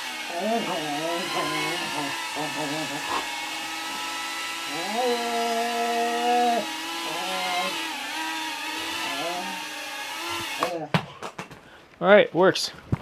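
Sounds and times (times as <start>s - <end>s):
drone motors spinning up: 0.0s - 10.7s.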